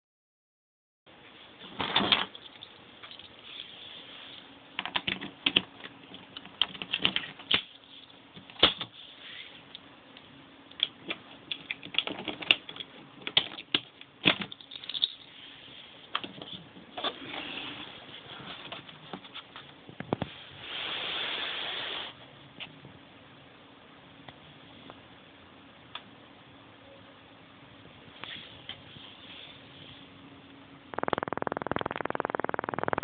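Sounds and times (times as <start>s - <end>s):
faint steady hum: 1.1s - 33.0s.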